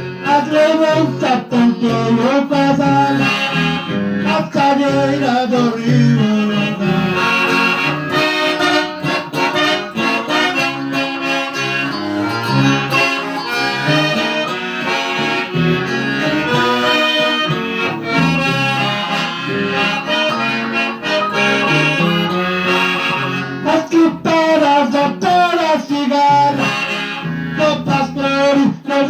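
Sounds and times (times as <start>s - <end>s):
accordion melody: 0.0s - 29.0s
strummed acoustic guitar: 0.0s - 29.0s.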